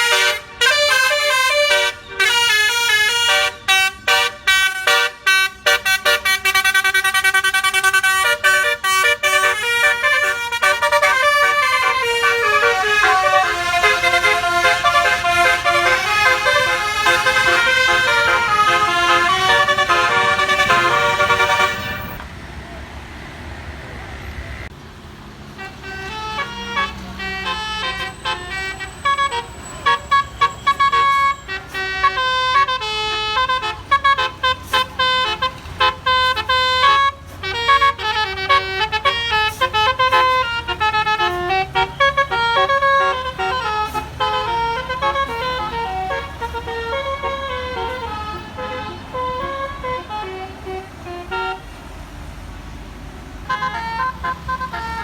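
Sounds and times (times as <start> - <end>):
musical air horn tune: 0.0 - 22.2, 25.6 - 51.8, 53.5 - 55.0.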